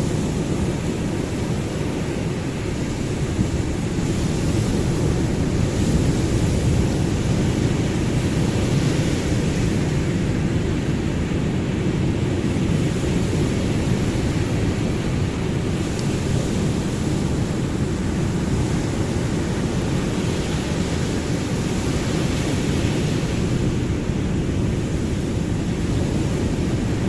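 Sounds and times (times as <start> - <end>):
ocean surf rumbling and hissing: 0.0 - 27.0.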